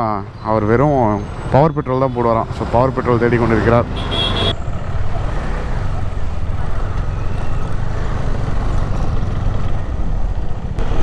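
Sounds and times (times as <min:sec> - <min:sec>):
road rumble: 0:00.0 - 0:11.0
motorcycle engine: 0:00.7 - 0:11.0.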